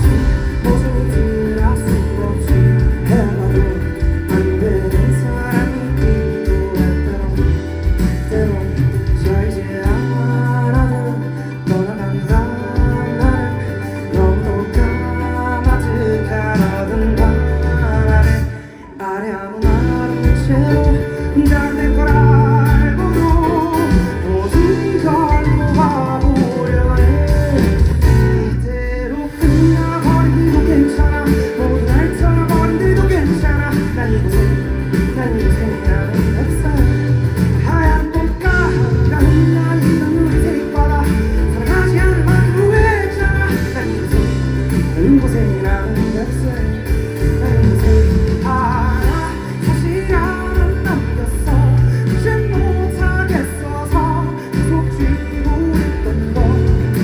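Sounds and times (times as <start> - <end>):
live band music: 0.0 - 57.0
person singing: 0.0 - 57.0.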